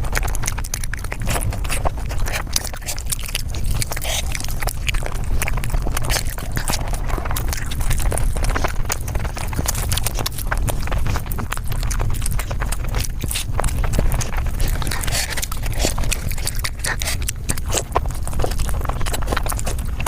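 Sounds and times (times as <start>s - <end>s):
sped-up chewing and biting: 0.0s - 20.0s
steady low rumble: 0.0s - 20.0s.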